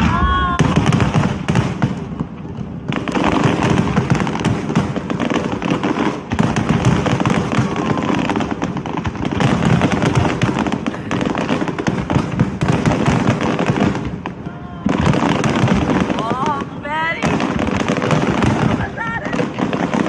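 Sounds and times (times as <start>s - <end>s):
fireworks bursting: 0.0s - 20.0s
fireworks crackle: 0.0s - 20.0s.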